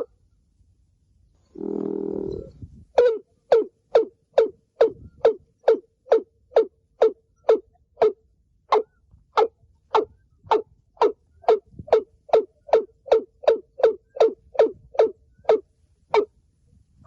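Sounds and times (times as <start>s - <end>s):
bird booming calls: 1.5s - 16.3s.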